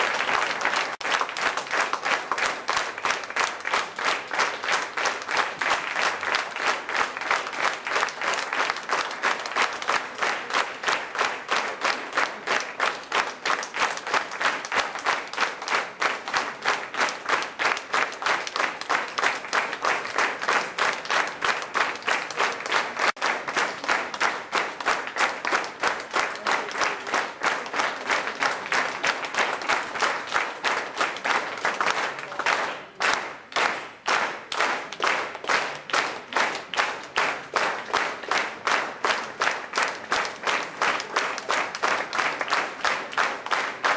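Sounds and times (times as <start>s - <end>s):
rhythmic audience clapping: 0.0s - 43.9s.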